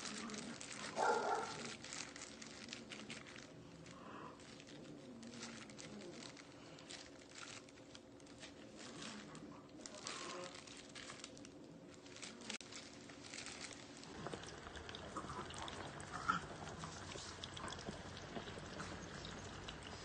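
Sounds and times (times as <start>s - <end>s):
plastic gloves rustling: 0.0s - 20.0s.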